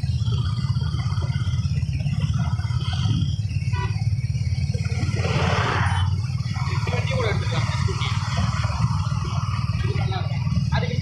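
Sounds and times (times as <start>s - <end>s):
motorcycle engine rumbling: 0.0s - 11.0s
road and wind noise: 0.0s - 11.0s.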